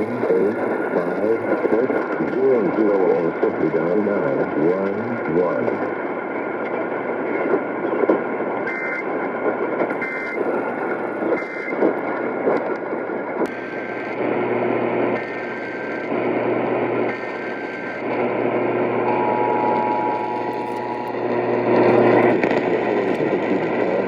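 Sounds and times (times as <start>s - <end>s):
radio static and hum: 0.0s - 24.0s.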